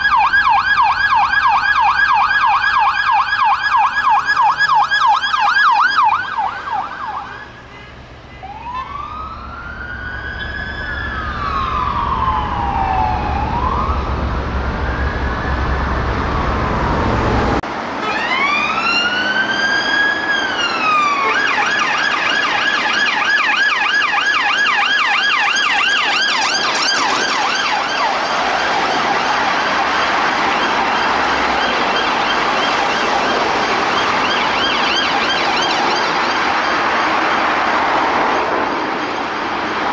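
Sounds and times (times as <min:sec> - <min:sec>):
siren fast yelp: 0:00.0 - 0:07.7, 0:08.4 - 0:16.8, 0:18.0 - 0:36.8
police siren wailing: 0:00.0 - 0:39.9
road rumble: 0:00.0 - 0:39.9.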